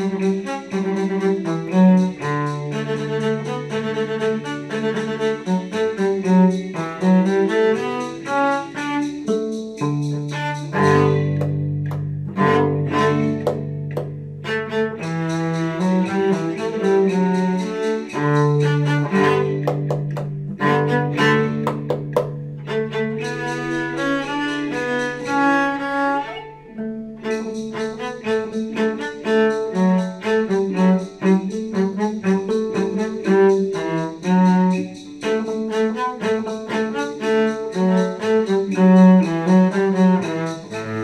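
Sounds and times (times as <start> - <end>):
bowed cello: 0.0 - 41.0
other instruments playing: 0.0 - 41.0.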